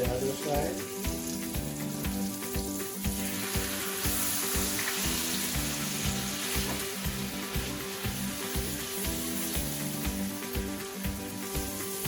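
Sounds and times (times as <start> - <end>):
background music with steady beat: 0.0 - 12.0
omelet sizzling in hot oil: 0.0 - 12.0.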